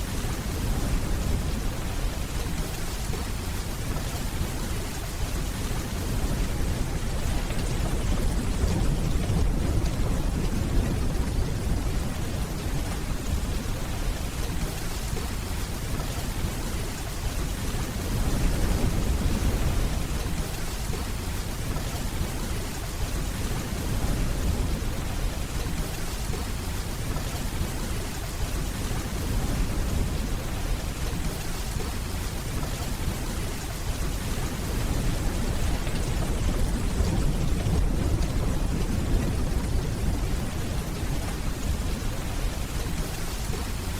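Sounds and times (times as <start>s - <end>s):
heavy rainfall: 0.0s - 43.9s
distant thunder rumbling: 0.1s - 15.3s, 17.8s - 43.9s.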